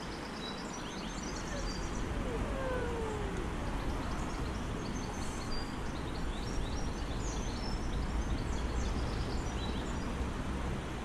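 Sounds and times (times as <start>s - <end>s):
small birds chirping: 0.2s - 10.0s
low outdoor rumble: 1.2s - 10.0s.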